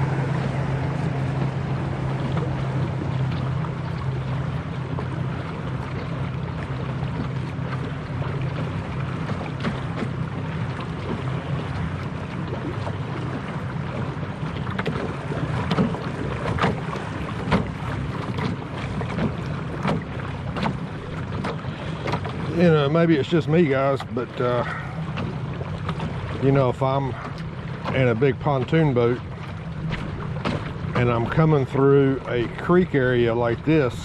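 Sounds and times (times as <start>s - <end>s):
outboard motor running: 0.0s - 34.0s
water noise: 0.0s - 34.0s
wind: 0.0s - 34.0s.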